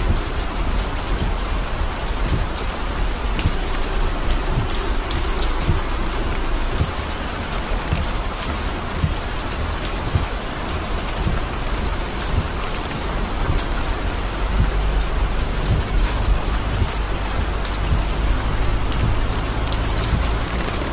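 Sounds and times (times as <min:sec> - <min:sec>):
car rumble on wet road: 0:00.0 - 0:20.9
rain on car windshield: 0:00.0 - 0:20.9.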